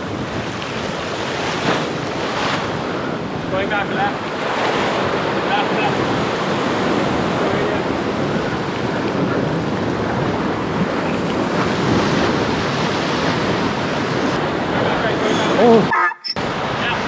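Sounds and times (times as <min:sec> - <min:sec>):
surf breaking on rocks: 0:00.0 - 0:15.3
wind buffeting microphone: 0:00.0 - 0:17.0.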